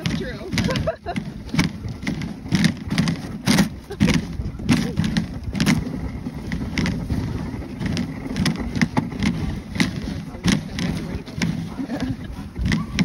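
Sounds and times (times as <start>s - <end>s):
sled clicks and knocks: 0.0s - 13.0s
sled runners scraping on snow: 0.0s - 13.0s.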